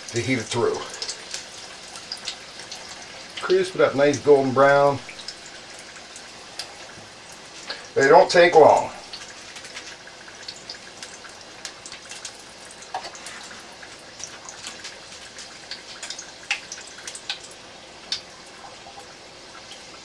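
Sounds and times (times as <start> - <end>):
food sizzling in deep fryer: 0.0 - 20.0.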